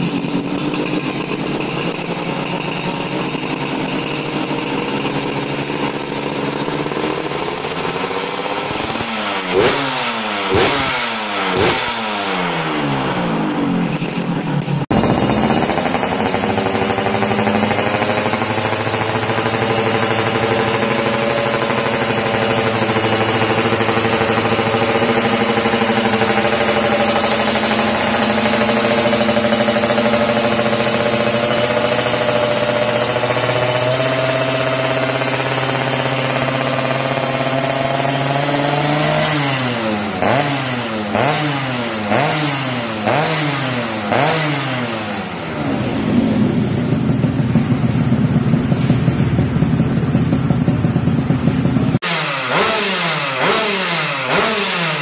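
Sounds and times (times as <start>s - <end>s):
engine revving: 0.0s - 55.0s
two-stroke engine running: 0.0s - 55.0s.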